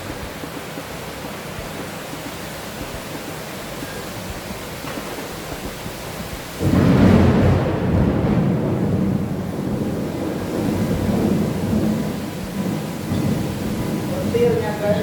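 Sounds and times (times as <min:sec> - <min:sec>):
low rumble of thunder: 0:00.0 - 0:15.0
steady rain: 0:00.0 - 0:15.0.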